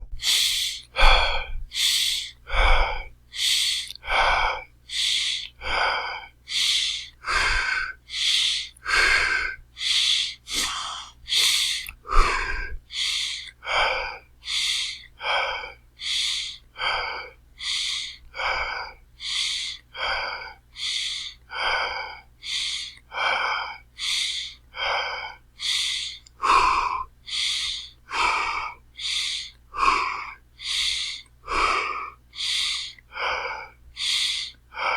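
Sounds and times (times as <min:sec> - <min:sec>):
person breathing heavily: 0:00.0 - 0:34.9.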